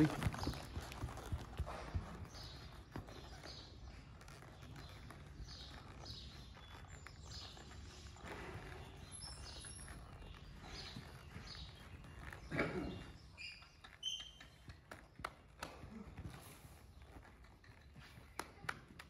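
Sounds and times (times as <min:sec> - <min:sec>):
soft horse hoofbeats: 0:00.0 - 0:19.0.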